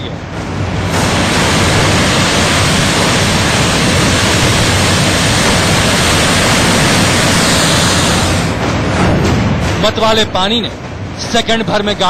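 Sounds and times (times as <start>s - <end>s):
floodwater and debris rushing: 0.4s - 10.3s.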